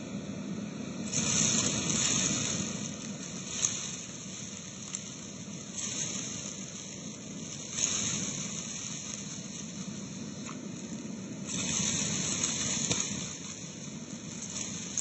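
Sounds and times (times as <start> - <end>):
grains crunching up hose: 1.0 - 15.0
vacuum cleaner running: 1.0 - 15.0.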